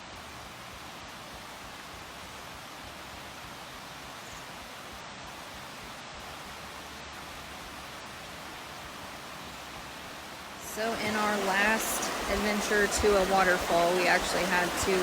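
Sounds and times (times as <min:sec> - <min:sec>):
waterfall rushing water: 0:00.1 - 0:15.0.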